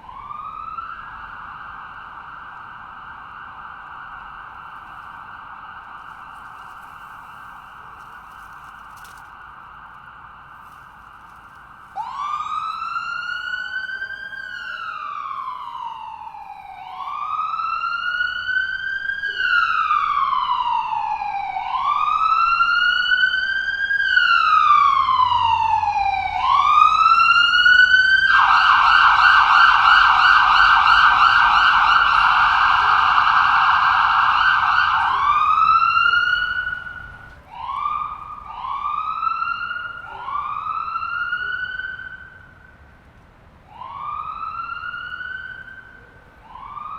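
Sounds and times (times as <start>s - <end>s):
ambulance siren yelping and wailing: 0.0s - 46.9s.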